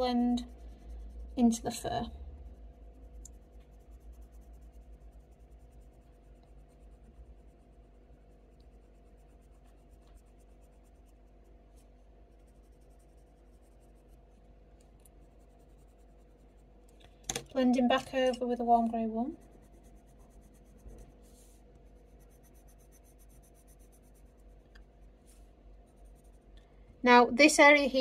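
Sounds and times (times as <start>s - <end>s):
pencil scratching on paper: 0.0s - 16.7s, 19.3s - 26.5s.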